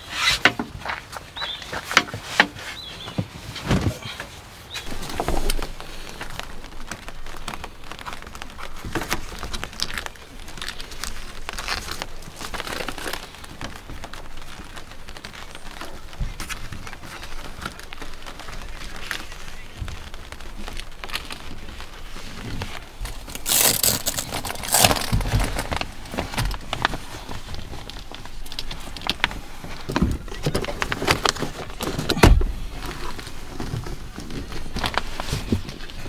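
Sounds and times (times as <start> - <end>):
padded panels rustling: 0.0 - 36.0.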